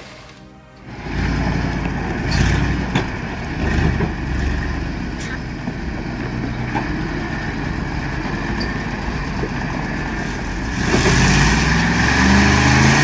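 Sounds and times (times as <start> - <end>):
truck engine running: 0.8 - 13.0.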